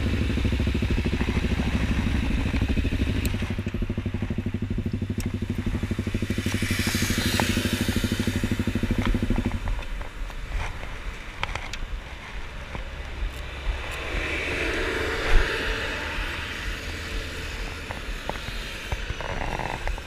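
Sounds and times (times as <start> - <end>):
motorcycle engine pulsing: 0.0 - 20.0
road traffic passing: 0.0 - 20.0.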